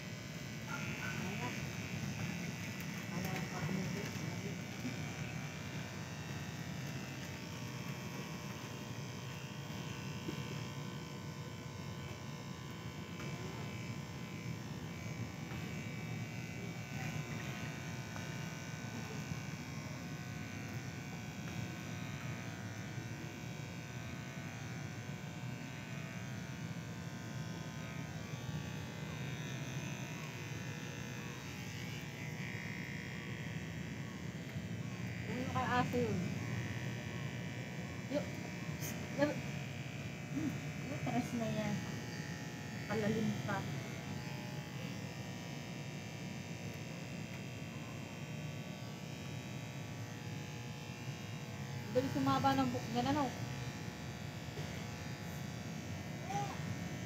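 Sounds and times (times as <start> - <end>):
electric hair clippers buzzing: 0.0 - 57.0.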